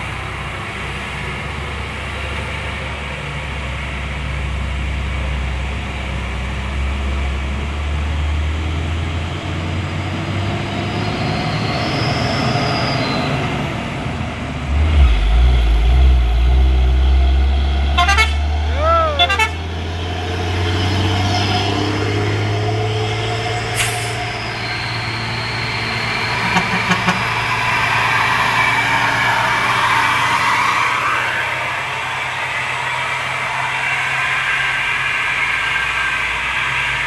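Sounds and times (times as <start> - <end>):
diesel truck engine labouring: 0.0 - 37.0
second deeper engine: 0.0 - 37.0.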